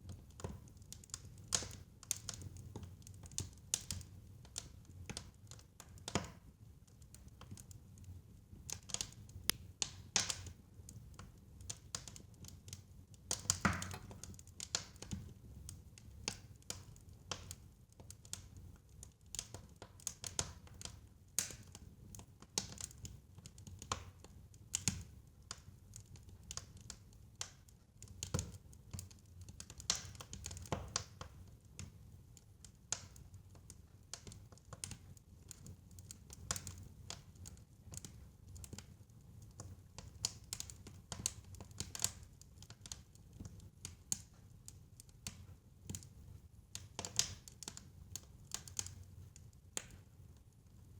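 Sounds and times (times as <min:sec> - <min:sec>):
fire crackling with pops: 0:00.0 - 0:50.9.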